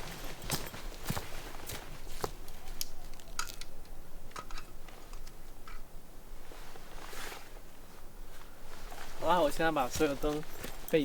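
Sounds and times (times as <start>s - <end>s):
camping gear clicks and rustles: 0.0s - 5.9s, 6.5s - 11.0s.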